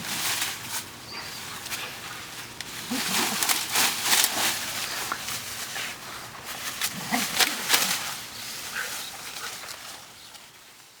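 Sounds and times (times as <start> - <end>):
twigs cracking: 0.0 - 10.5
leaves rustling: 0.0 - 11.0.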